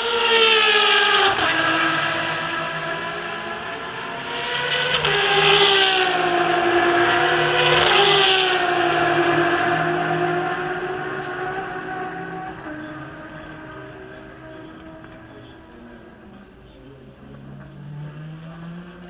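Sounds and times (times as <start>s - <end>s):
loud rush of passing cars: 0.0s - 19.0s
race car engines at high revs: 0.0s - 19.0s.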